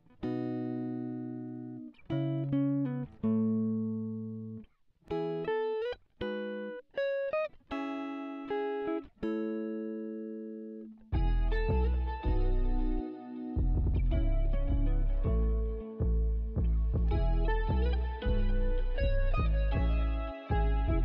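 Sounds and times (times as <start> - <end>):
plucked guitar chords: 0.0 - 21.0.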